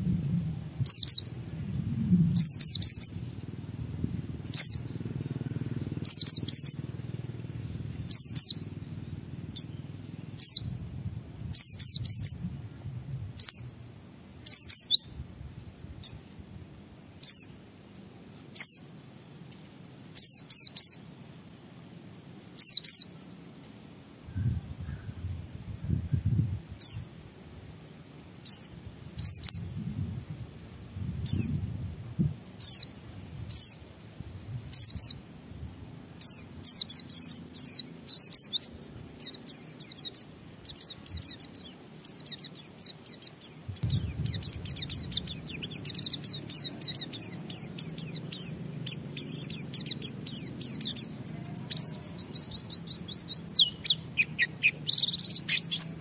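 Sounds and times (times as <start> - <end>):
bird chirping and twittering: 0.0 - 16.4, 17.2 - 19.0, 20.2 - 21.1, 22.6 - 23.5, 25.8 - 27.1, 27.7 - 33.9, 34.5 - 56.0.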